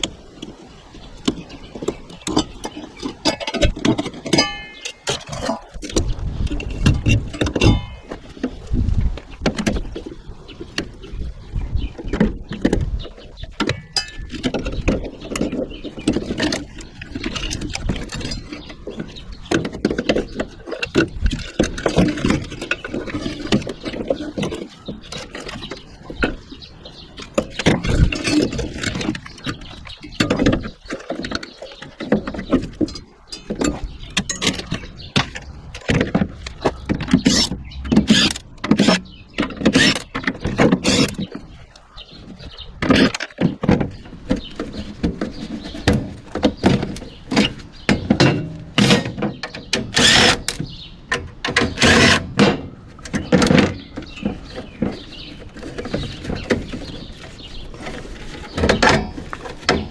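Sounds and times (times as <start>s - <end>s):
metal clanking and scraping: 1.3s - 8.7s, 11.8s - 59.9s.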